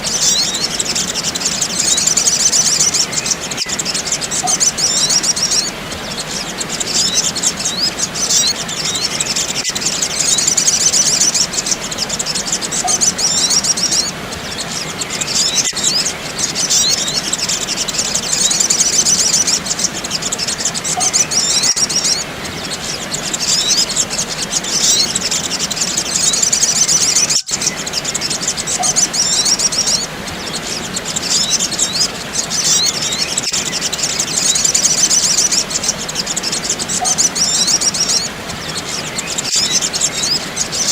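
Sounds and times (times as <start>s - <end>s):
sunbird twittering chirps: 0.0s - 40.9s.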